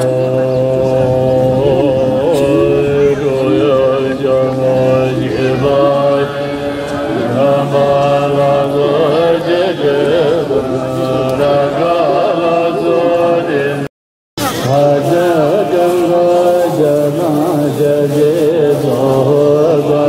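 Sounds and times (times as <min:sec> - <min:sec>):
low drone: 0:00.0 - 0:20.0
ornamented vocal chanting: 0:00.0 - 0:20.0.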